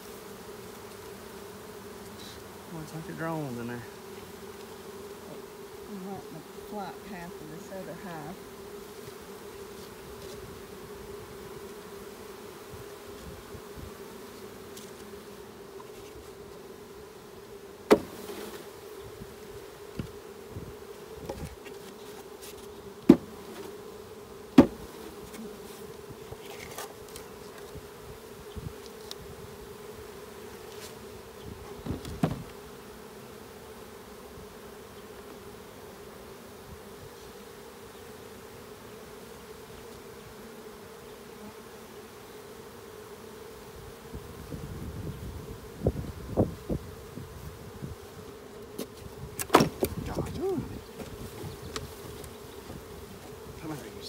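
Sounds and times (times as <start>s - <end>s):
bee swarm humming: 0.0s - 54.0s.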